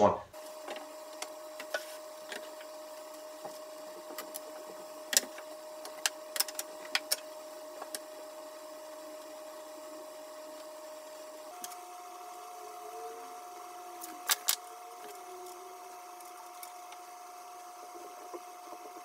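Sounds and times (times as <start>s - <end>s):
steady high hum: 0.0s - 19.0s.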